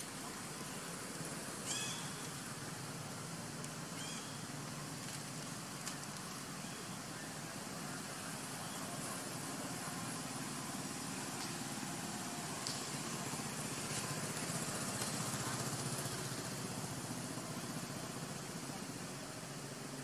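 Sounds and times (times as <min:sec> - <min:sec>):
engine humming: 0:00.0 - 0:20.0
outdoor hiss: 0:00.0 - 0:20.0.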